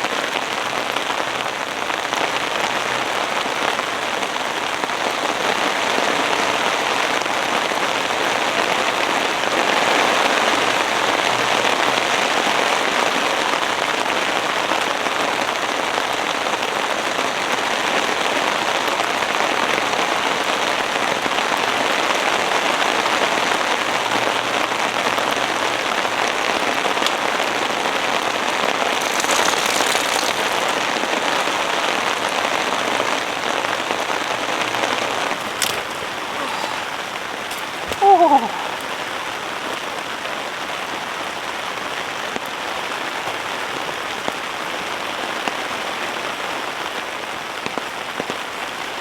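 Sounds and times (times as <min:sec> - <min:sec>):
rain pattering on tent fabric: 0:00.0 - 0:49.0.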